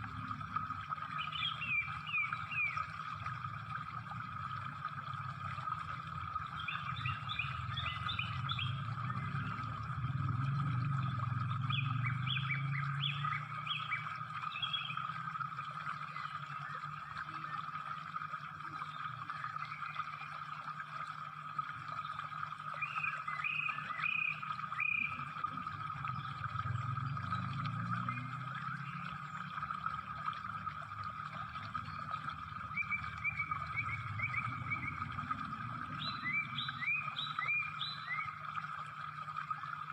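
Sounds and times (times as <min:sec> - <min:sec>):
low hum: 0:00.0 - 0:39.9.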